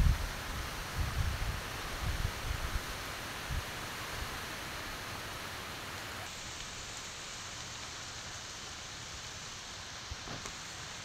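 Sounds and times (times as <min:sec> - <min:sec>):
heavy rain and wind on fronds: 0:00.0 - 0:11.0.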